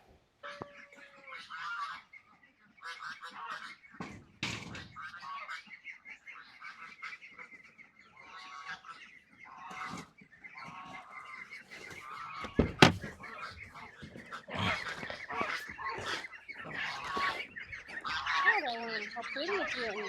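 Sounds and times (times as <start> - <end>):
waterfowl honking: 0.4 - 2.2, 4.9 - 20.0.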